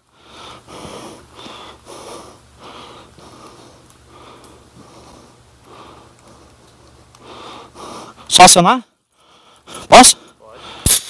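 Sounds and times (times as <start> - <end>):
person breathing heavily: 0.0 - 8.3, 9.2 - 11.0.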